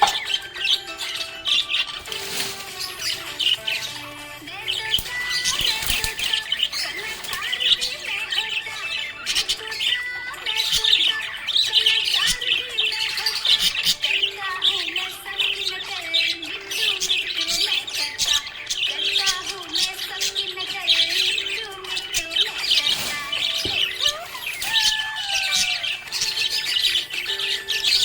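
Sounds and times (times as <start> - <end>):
parrots chirping and chattering: 0.0 - 28.0.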